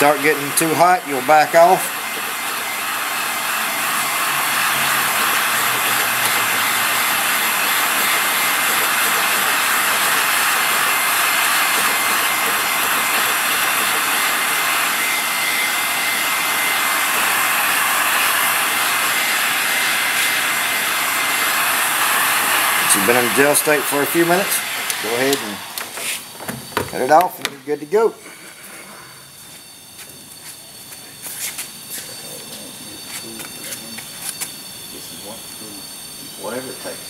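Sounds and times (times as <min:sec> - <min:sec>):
heat gun blowing: 0:00.0 - 0:32.4.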